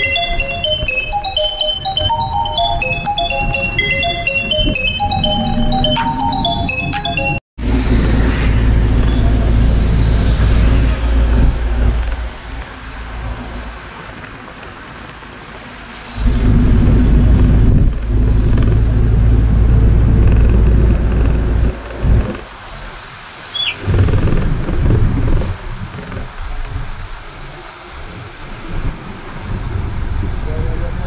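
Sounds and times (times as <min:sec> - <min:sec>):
bus engine rumbling: 0:00.0 - 0:31.0.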